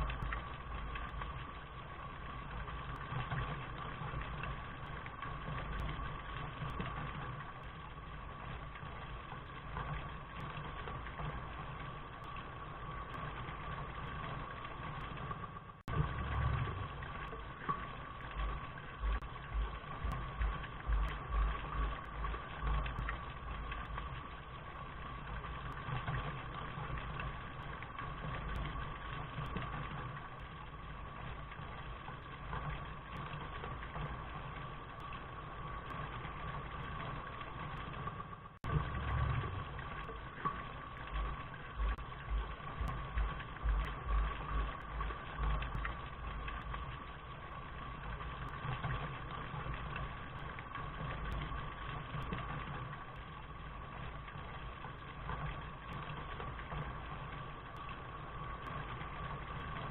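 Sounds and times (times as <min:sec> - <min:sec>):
low rumble: 0:00.0 - 0:55.9
steady rain hiss: 0:00.0 - 0:59.9.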